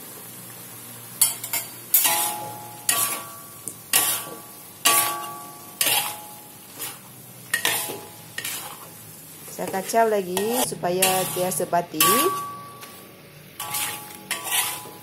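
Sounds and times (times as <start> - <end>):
metal spatula scraping a wok: 1.2 - 15.0.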